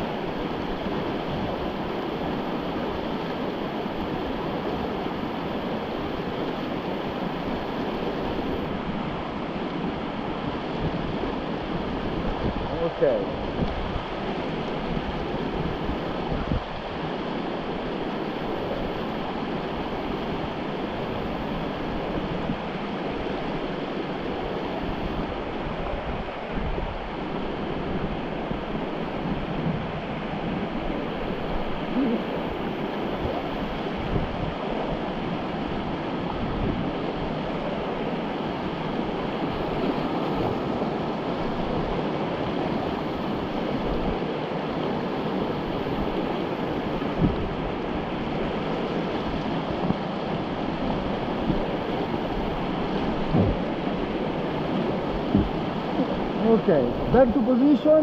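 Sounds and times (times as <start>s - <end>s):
whitewater river rushing: 0.0s - 58.0s.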